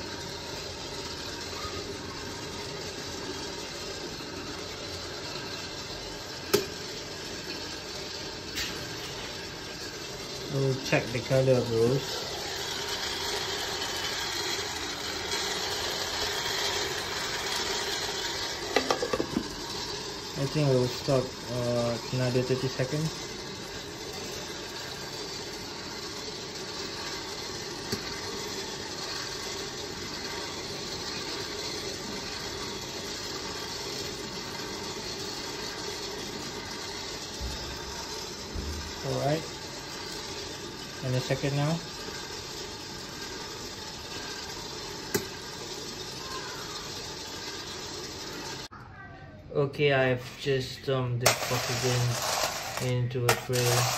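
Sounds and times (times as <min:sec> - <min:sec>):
beans rustling in roaster: 0:00.0 - 0:48.7, 0:49.8 - 0:53.9
faint motor hum: 0:00.0 - 0:53.9.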